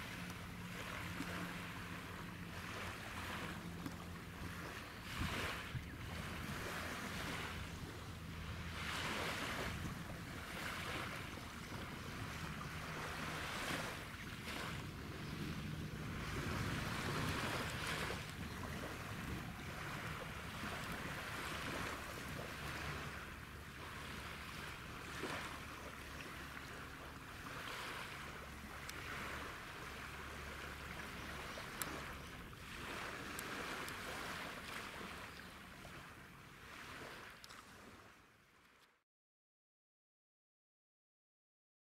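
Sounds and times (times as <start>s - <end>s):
small waves washing on beach: 0.0s - 38.7s
light wind: 0.0s - 38.9s.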